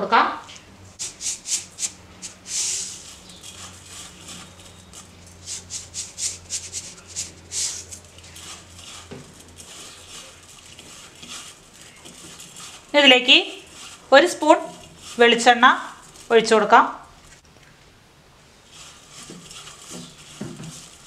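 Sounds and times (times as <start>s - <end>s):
salt shaker rattling: 1.0s - 16.3s, 18.8s - 21.0s
fingers mixing paste in bowl: 1.0s - 16.4s, 18.7s - 21.0s.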